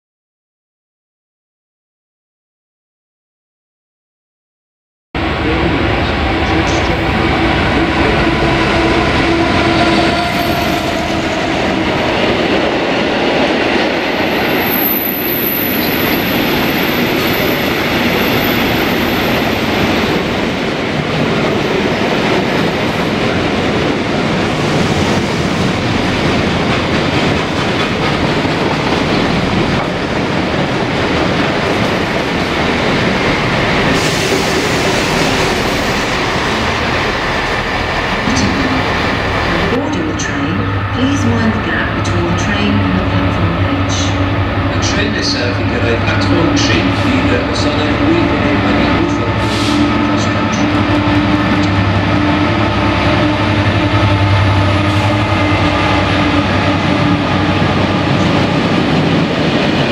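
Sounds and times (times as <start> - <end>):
train wheels rumbling on rails: 5.2 - 59.9.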